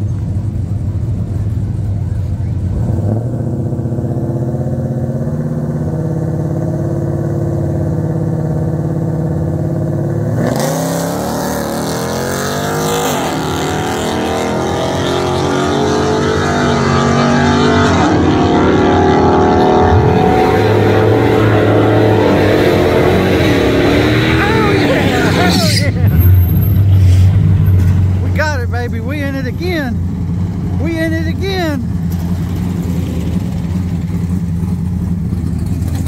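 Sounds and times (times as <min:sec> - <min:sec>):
pickup engine revving: 0:00.0 - 0:36.0.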